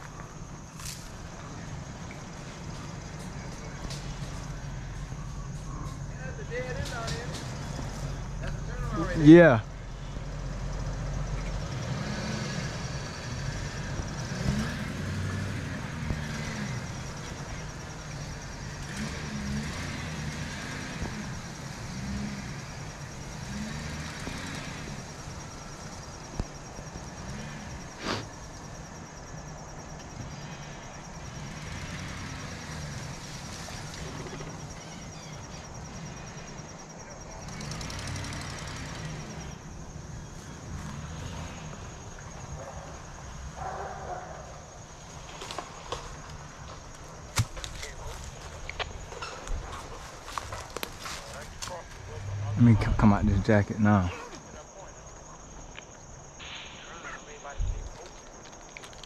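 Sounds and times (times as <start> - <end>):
pickup truck engine driving: 0.0 - 56.4.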